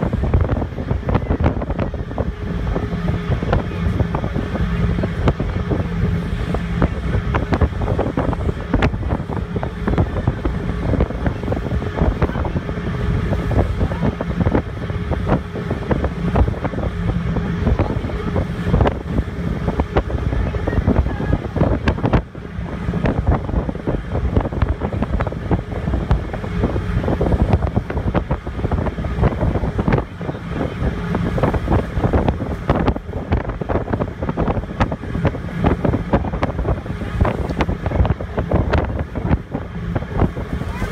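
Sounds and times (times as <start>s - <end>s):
ferry engines droning: 0.0s - 40.9s
rushing water: 0.0s - 40.9s
wind buffeting microphone: 0.0s - 40.9s.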